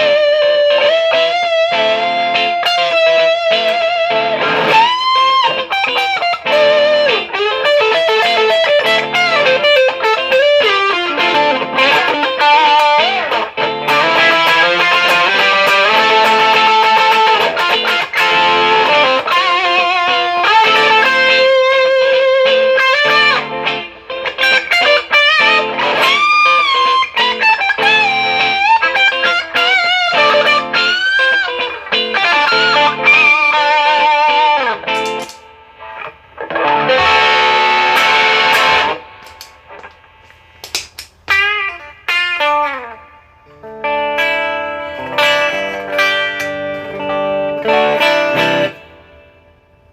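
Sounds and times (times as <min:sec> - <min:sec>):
overdriven electric guitar lead: 0:00.0 - 0:49.9.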